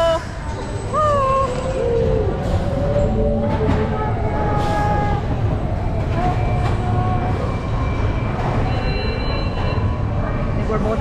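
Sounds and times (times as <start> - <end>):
roller coaster machinery rumble: 0.0 - 11.0.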